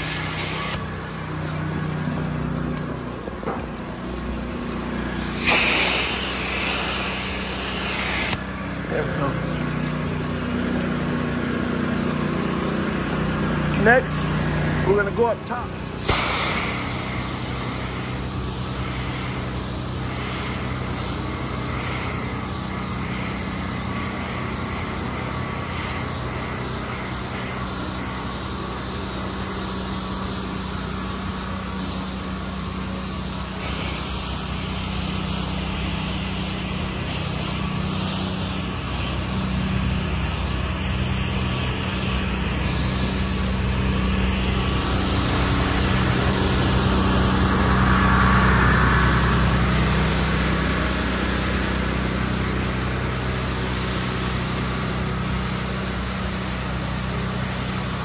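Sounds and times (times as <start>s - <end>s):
high-pressure water spray hiss: 0.0s - 1.9s, 4.4s - 10.4s, 15.7s - 58.0s
pressure washer engine hum: 0.0s - 58.0s.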